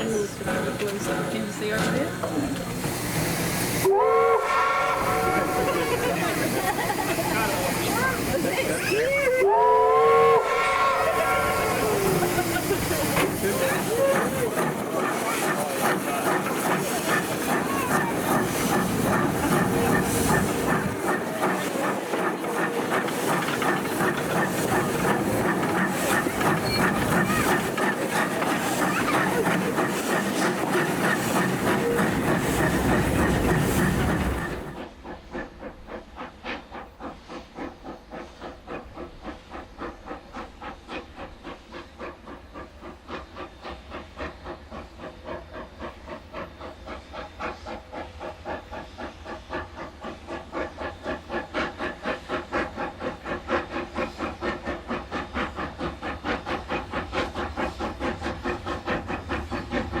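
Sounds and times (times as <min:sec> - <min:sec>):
steam locomotive exhaust beats: 0:00.0 - 1:00.0
loud hiss of steam: 0:02.1 - 1:00.0.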